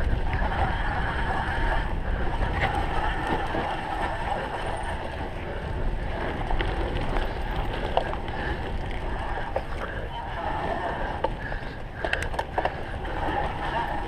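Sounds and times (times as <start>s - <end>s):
bike rattling clicks and knocks: 0.0s - 14.0s
wind rushing over microphone: 0.0s - 14.0s.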